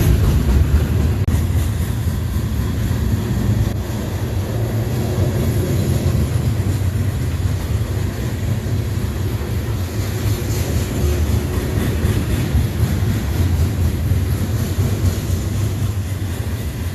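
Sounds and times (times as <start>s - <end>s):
freight train rumbling on rails: 0.0s - 16.9s.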